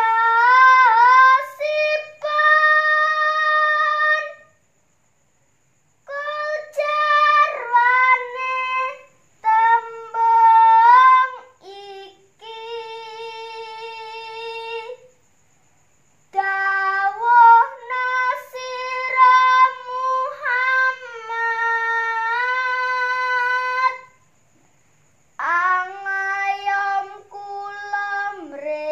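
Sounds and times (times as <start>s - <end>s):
woman singing unaccompanied: 0.0s - 4.5s, 6.1s - 15.1s, 16.3s - 24.2s, 25.4s - 28.9s.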